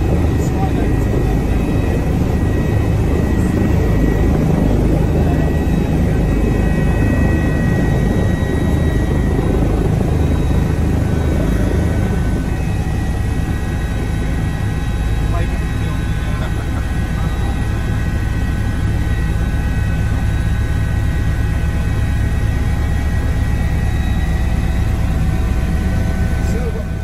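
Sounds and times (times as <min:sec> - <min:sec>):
helicopter rotor rumble: 0:00.0 - 0:27.0
turbine whine: 0:00.0 - 0:27.0.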